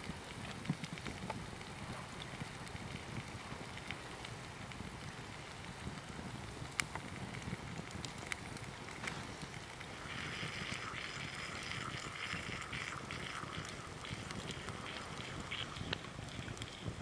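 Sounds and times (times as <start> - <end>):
cream pouring in a thin stream: 0.0 - 17.0
wood fire crackling: 0.0 - 17.0.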